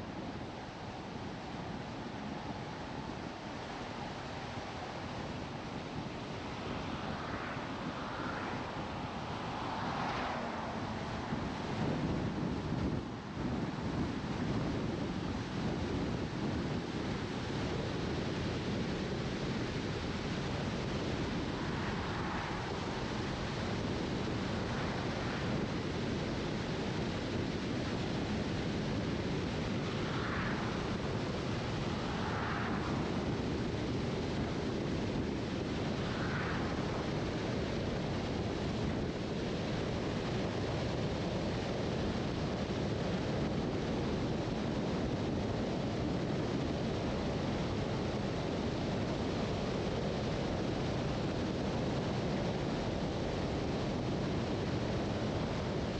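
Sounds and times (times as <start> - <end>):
car tyre and wind noise: 0.0 - 55.9.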